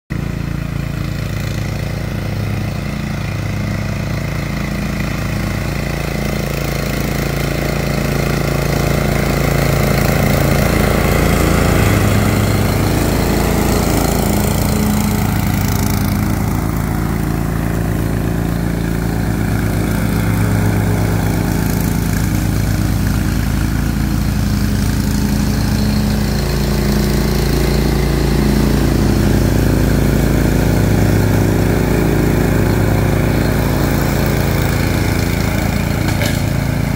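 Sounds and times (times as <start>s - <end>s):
lawn mower engine running: 0.1s - 36.9s.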